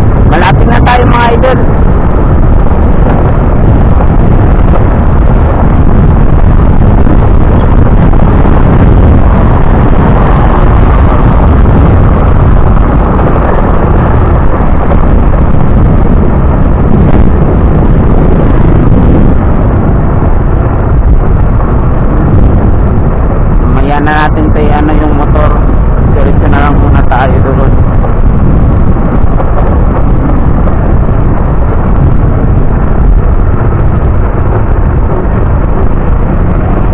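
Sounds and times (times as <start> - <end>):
vehicle engine and road noise: 0.0 - 36.9
wind buffeting microphone: 0.0 - 36.9.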